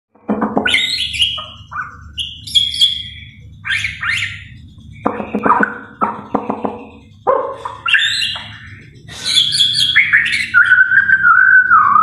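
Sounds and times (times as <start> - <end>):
songbird whistling song: 0.6 - 6.2, 7.3 - 12.0.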